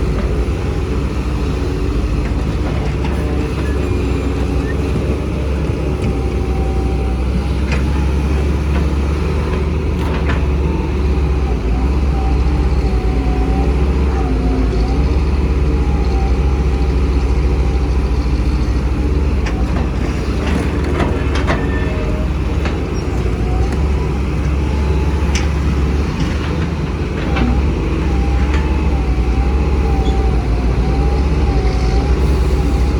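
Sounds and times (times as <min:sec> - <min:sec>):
excavator engine rumble: 0:00.0 - 0:32.9.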